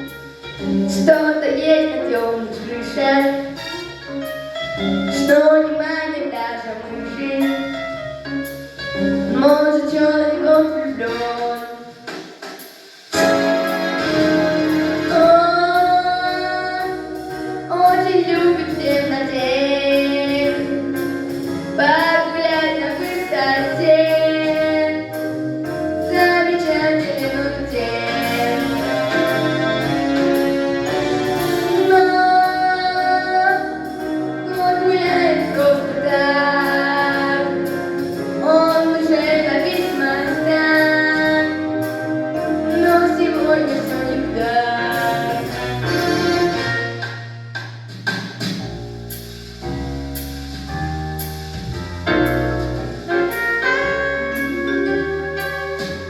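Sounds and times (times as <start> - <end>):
musical backing: 0.0 - 56.0.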